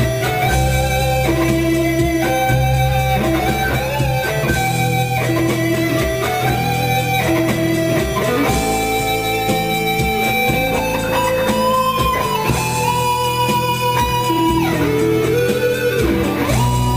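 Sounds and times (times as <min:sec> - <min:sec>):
steady low bass: 0:00.0 - 0:15.4
guitar chords: 0:00.0 - 0:16.9.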